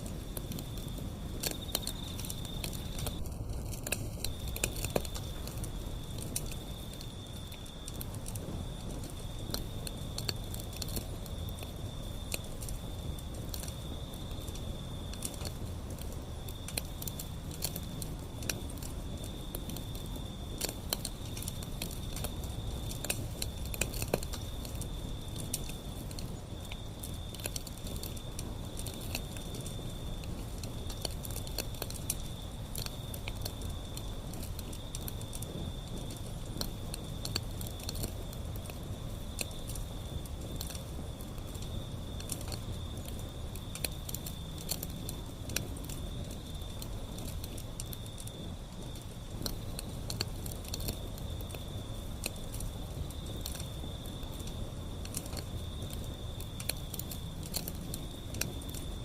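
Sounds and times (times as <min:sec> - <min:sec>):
low rumble of flame: 0:00.0 - 0:59.0
wood fire crackling: 0:00.0 - 0:59.0.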